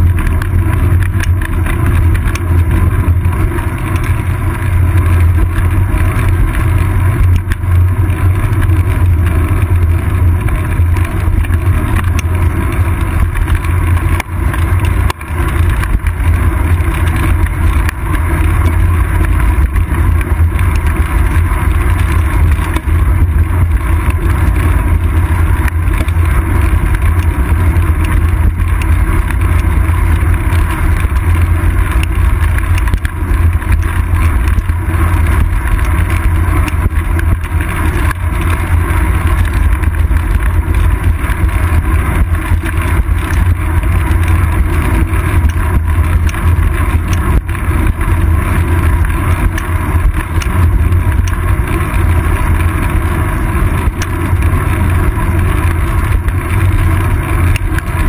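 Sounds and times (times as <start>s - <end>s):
wind buffeting and road rumble: 0.0s - 58.0s.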